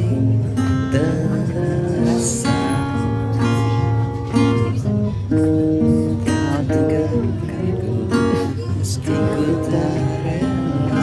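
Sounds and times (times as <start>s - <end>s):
acoustic guitar ballad: 0.0s - 11.0s.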